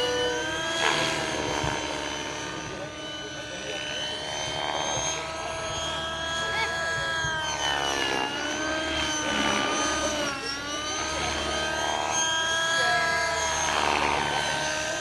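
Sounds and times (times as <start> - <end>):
small aircraft engine passing: 0.0 - 15.0.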